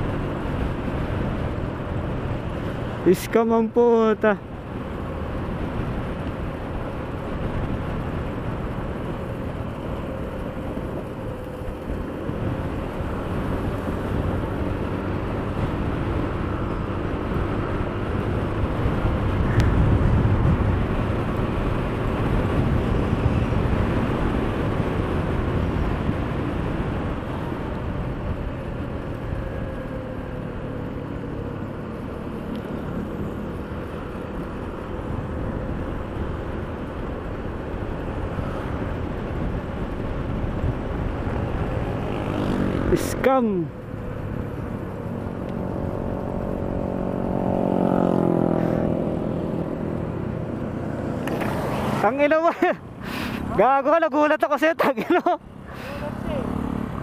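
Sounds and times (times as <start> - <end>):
wind rush on microphone: 4.0 - 53.8.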